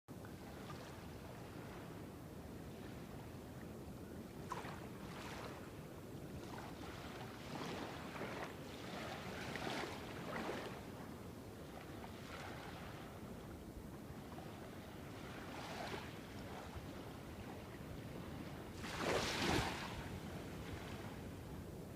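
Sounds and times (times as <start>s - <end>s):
waves lapping at shore: 0.2s - 21.9s.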